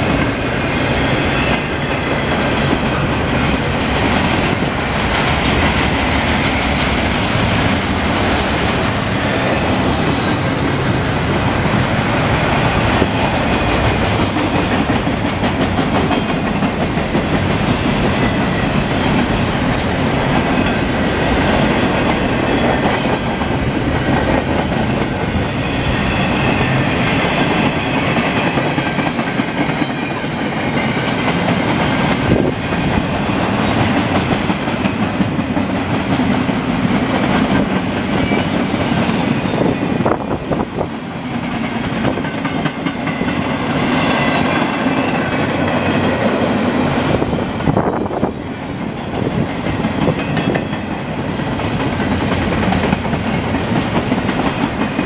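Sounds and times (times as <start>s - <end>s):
steel wheels on rails: 0.0s - 55.0s
train wheels clickety-clack: 0.0s - 55.0s.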